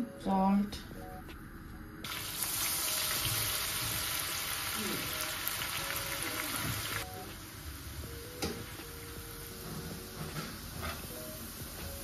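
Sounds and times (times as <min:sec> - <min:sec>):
food sizzling in hot oil: 0:02.0 - 0:12.0.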